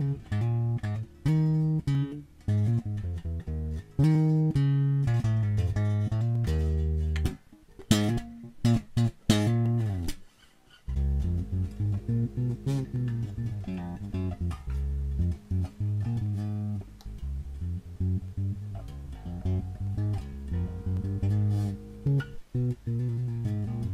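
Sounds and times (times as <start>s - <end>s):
bass guitar notes: 0.0s - 10.2s, 10.9s - 23.9s.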